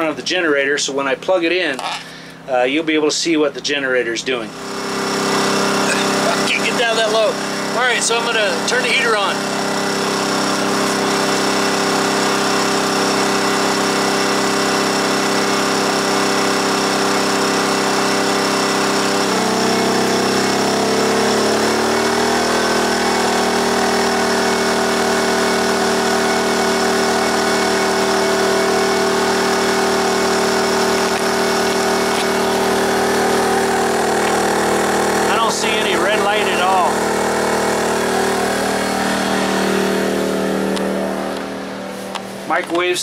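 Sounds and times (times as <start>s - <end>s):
generator engine running: 0.0s - 43.0s.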